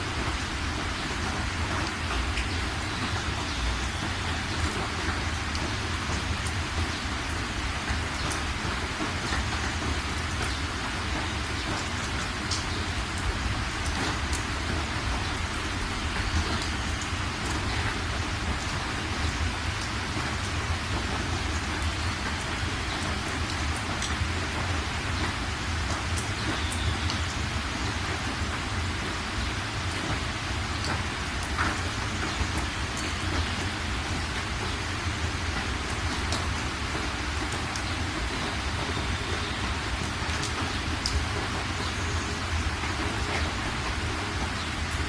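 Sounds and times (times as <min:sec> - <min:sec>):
heavy rain pattering: 0:00.0 - 0:45.0.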